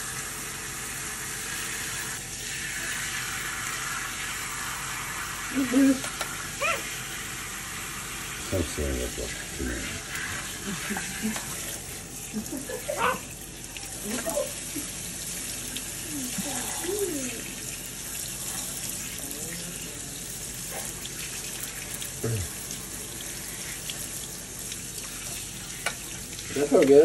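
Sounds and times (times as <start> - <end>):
water spraying into sink: 0.0 - 27.0.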